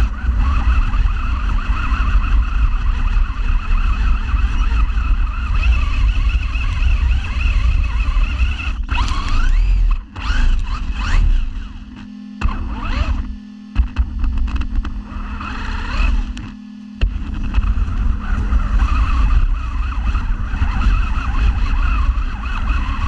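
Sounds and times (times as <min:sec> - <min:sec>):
rc car motor whining: 0:00.0 - 0:23.0.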